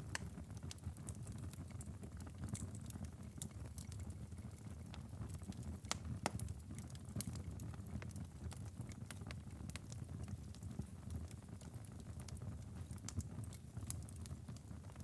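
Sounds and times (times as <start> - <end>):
fire crackling in fireplace: 0.0 - 15.0.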